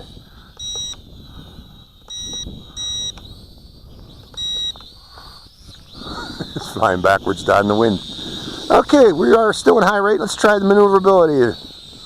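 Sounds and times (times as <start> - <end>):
short electronic beeps: 0.0 - 9.9
faint high-pitched whine: 0.0 - 12.0.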